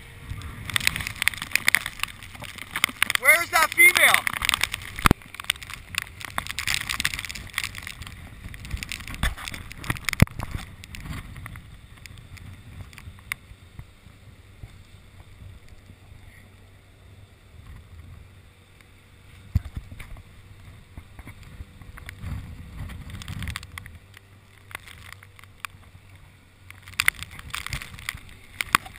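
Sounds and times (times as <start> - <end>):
wind buffeting microphone: 0.0 - 18.5, 19.2 - 24.4.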